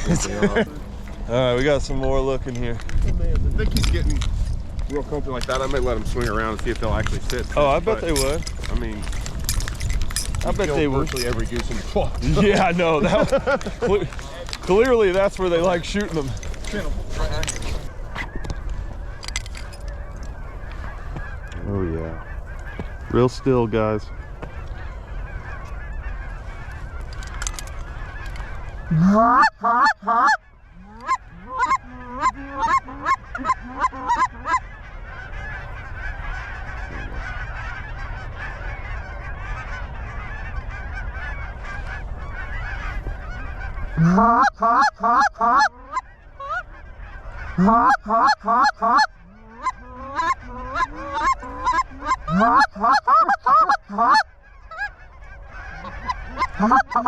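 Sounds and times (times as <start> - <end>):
geese honking: 0.0 - 57.0
wind rumble on microphone: 0.0 - 57.0.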